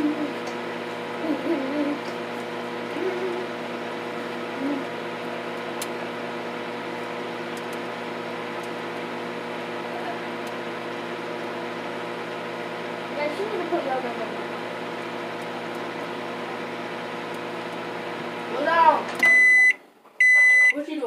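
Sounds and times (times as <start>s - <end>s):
microwave oven humming: 0.0s - 21.0s.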